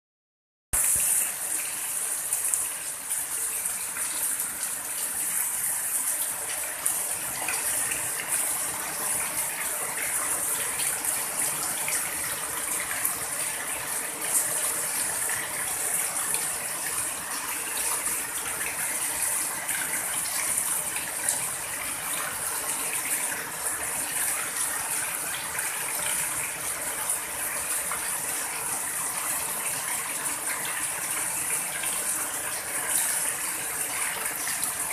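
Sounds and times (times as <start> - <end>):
water pouring off eaves: 0.8 - 34.9.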